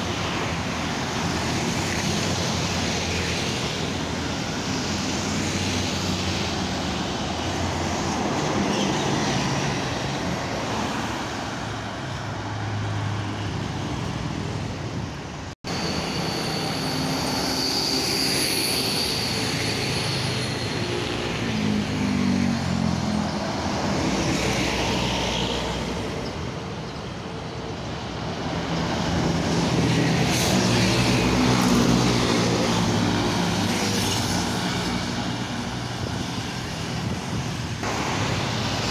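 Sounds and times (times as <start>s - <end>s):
highway traffic passing: 0.0s - 38.9s
large bus passing close: 0.0s - 38.9s.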